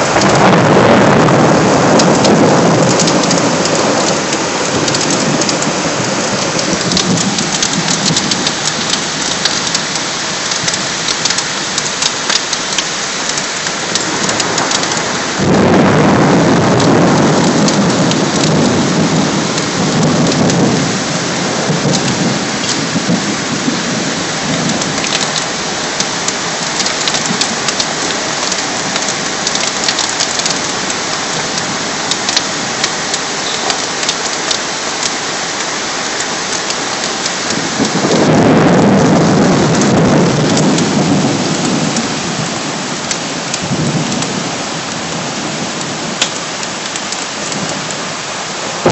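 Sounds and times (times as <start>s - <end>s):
deep rush of rain: 0.0s - 48.9s
heavy rain pouring: 0.0s - 48.9s
raindrops ticking: 0.0s - 48.9s.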